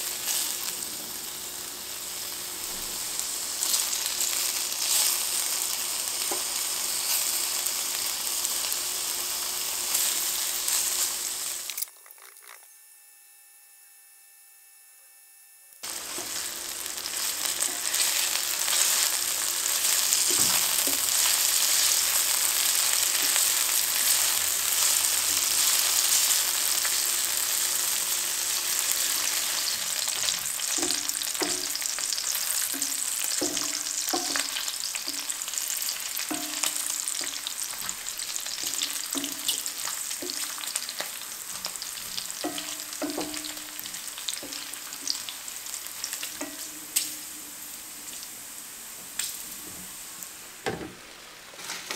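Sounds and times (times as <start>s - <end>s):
meat sizzling in a pan: 0.0s - 11.7s, 15.8s - 51.9s.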